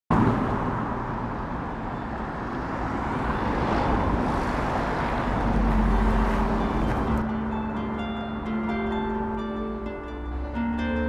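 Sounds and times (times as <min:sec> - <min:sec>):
road traffic rumble and hiss: 0:00.1 - 0:11.0.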